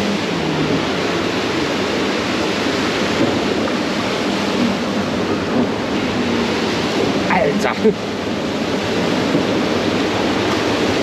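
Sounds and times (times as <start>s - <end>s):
rushing water around raft: 0.0s - 11.0s.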